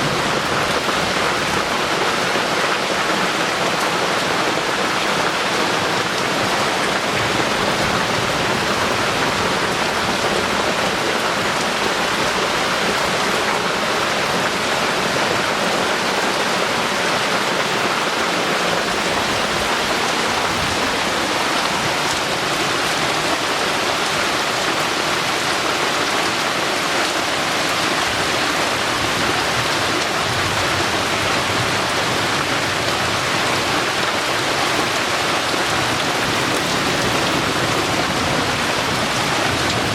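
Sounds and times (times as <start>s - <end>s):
heavy rain drumming on surfaces: 0.0s - 39.9s.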